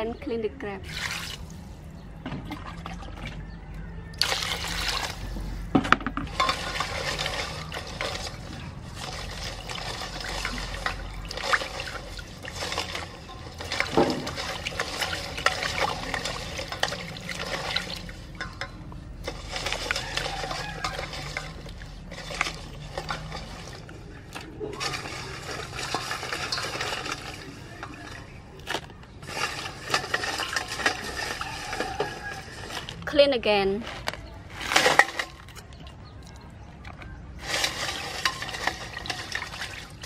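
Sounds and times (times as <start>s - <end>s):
water sloshing and splashing: 0.8s - 40.0s
crabs clicking and knocking: 1.9s - 40.0s.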